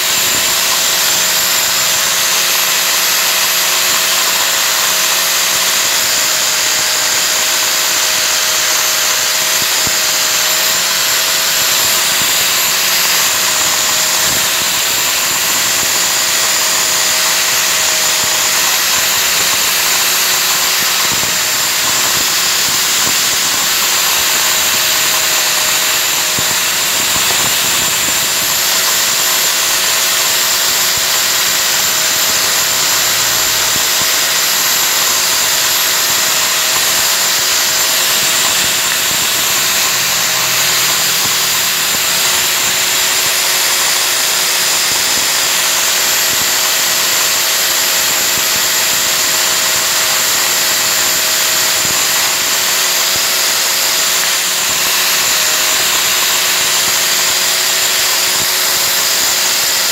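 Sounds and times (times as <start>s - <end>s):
angle grinder grinding metal: 0.0s - 59.9s.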